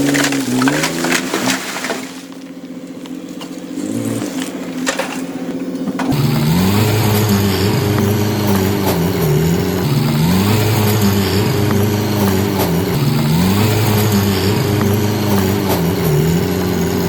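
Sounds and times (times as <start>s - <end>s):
diesel machinery engine: 0.0s - 17.0s.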